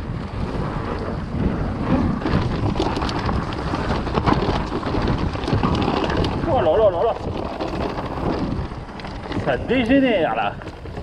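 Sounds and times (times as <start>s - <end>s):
tyres rolling on dirt: 0.0s - 11.0s
wind buffeting microphone: 0.0s - 11.0s
bike chain and frame clacking: 0.4s - 11.0s.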